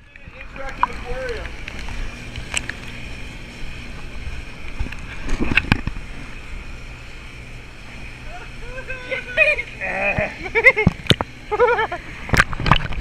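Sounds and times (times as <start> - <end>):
boat engine exhaust rumble: 0.0 - 13.0
water gushing: 0.0 - 13.0.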